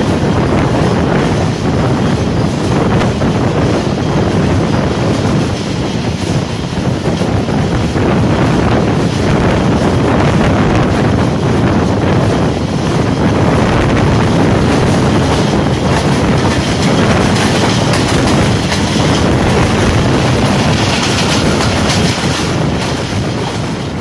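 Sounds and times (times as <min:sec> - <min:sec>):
train rumbling at speed: 0:00.0 - 0:24.0.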